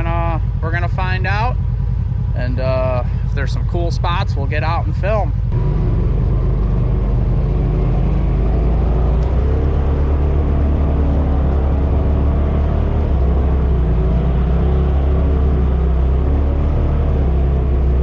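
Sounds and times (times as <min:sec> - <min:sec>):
off-road vehicle engine running: 0:00.0 - 0:18.0.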